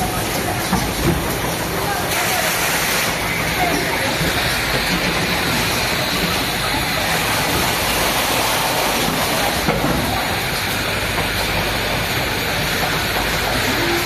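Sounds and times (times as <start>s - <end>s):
production line machinery: 0.0s - 14.0s.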